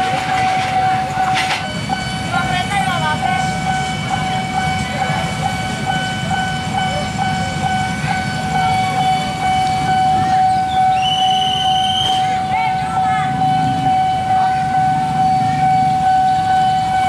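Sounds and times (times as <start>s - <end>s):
higher warning tone: 0.0s - 17.0s
level-crossing warning bell: 0.0s - 17.0s
traffic rumble: 0.0s - 17.0s.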